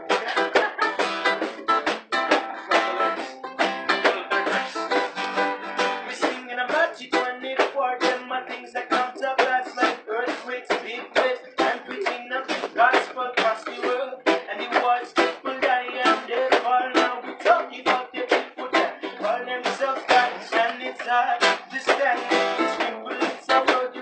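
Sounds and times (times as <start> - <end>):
acoustic guitars strumming: 0.0 - 24.0
ukulele strumming: 0.0 - 24.0.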